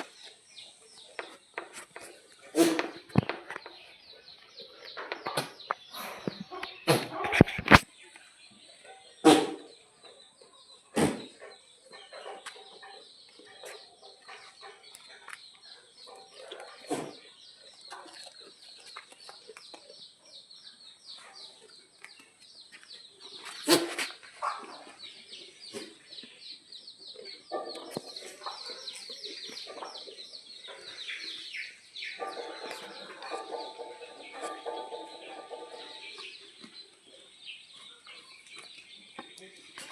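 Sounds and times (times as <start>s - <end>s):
chickens clucking: 0.0s - 20.3s, 21.2s - 39.9s.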